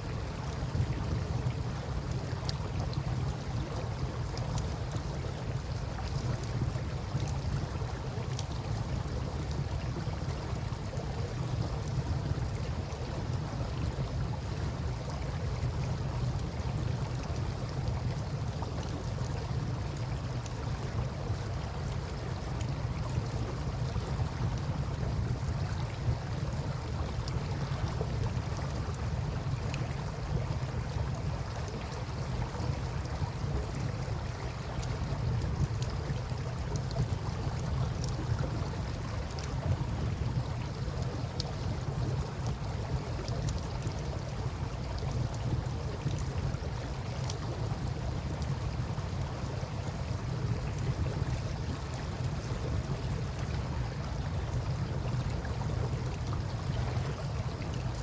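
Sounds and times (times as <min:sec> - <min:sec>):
low rumble of fire: 0:00.0 - 0:58.0.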